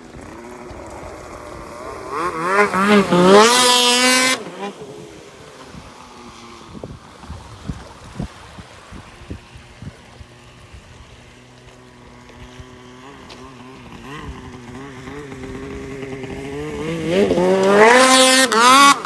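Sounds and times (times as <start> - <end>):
snowmobile engine approaching: 0.0 - 19.0.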